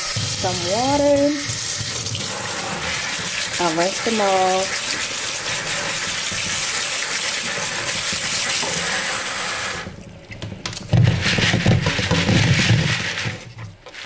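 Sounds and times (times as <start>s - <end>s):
wet beans rustling in colander: 0.0s - 9.1s, 10.8s - 14.0s
tap water running onto beans: 0.0s - 14.0s.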